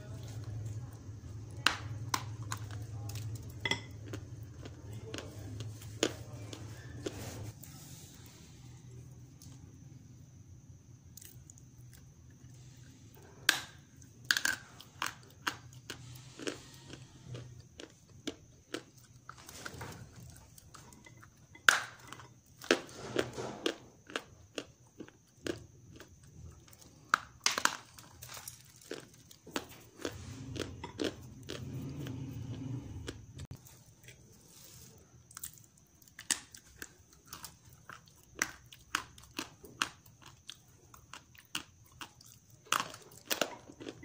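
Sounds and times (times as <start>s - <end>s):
soft chewing: 0.0s - 9.8s, 14.7s - 44.0s
clay crunching while chewed: 2.0s - 7.6s, 13.5s - 44.0s.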